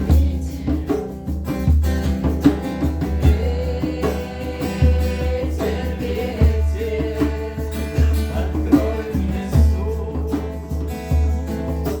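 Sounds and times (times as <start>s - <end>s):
acoustic guitar strumming: 0.0s - 12.0s
steady bass: 0.0s - 12.0s.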